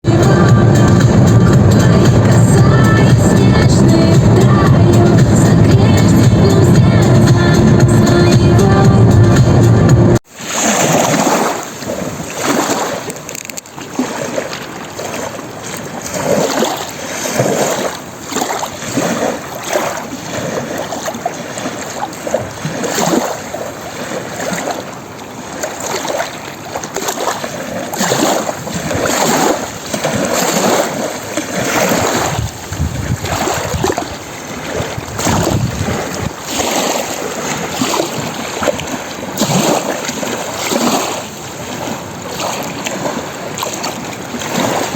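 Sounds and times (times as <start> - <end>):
waves lapping against shore: 0.0 - 44.9.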